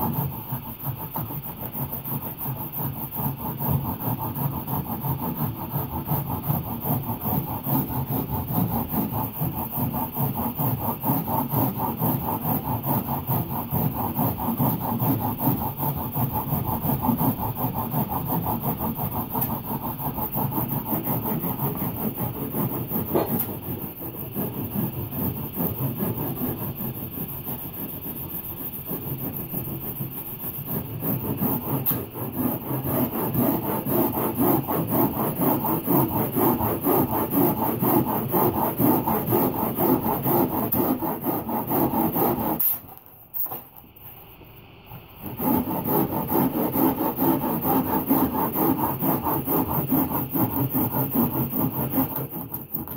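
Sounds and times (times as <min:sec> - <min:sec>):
rasp scraping foam: 0:00.0 - 0:43.1, 0:45.2 - 0:52.9.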